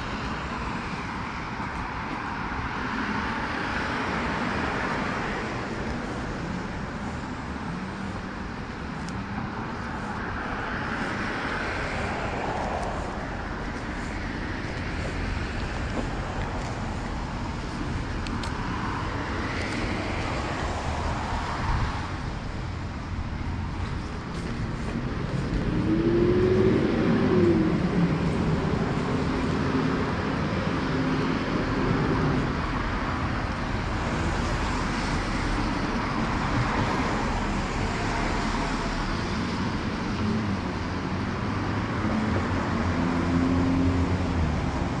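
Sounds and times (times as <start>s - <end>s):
cars passing on wet road: 0.0s - 45.0s.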